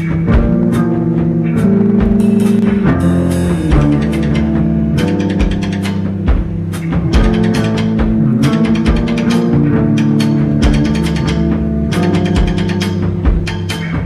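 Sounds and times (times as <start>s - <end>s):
drum kit hits: 0.0s - 14.0s
electric guitar and bass chords: 0.0s - 14.0s.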